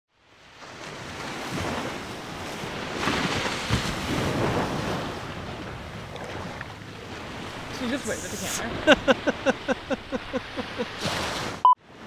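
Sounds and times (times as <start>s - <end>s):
ocean surf washing on beach: 0.2s - 12.0s.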